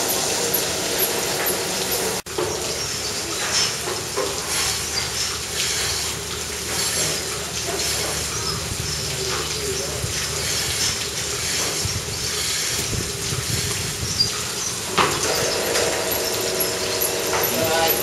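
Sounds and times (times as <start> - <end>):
milking machinery hiss and rumble: 0.0 - 18.0.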